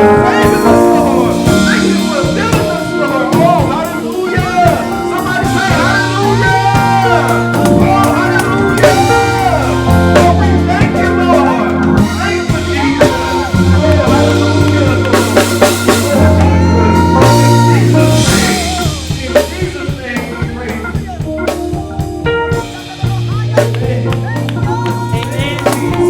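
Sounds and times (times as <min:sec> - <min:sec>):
drum kit with snare and rim hits: 0:00.0 - 0:26.0
held bass line: 0:00.0 - 0:26.0
sustained chords: 0:00.0 - 0:26.0.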